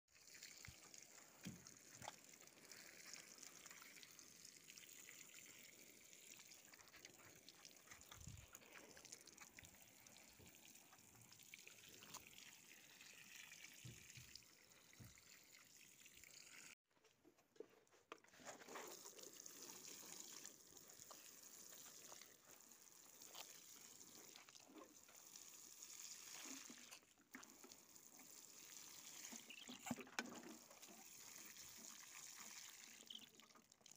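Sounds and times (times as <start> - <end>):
water sprinkling onto soil: 0.1 - 15.6, 18.7 - 29.8, 30.5 - 33.9.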